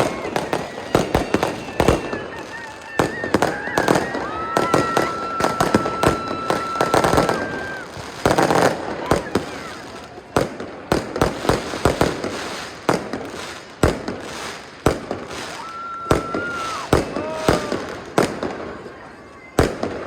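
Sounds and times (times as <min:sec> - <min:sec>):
fireworks and firecrackers banging: 0:00.0 - 0:20.0.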